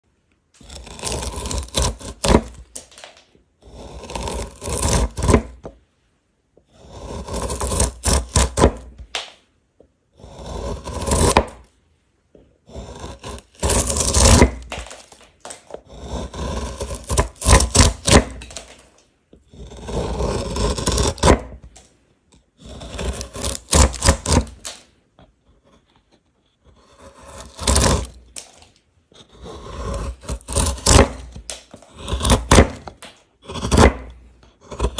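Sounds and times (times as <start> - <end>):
hand tool scraping wood: 0.6 - 3.0, 3.6 - 5.8, 6.7 - 9.1, 10.2 - 11.6, 12.7 - 21.8, 22.6 - 34.9.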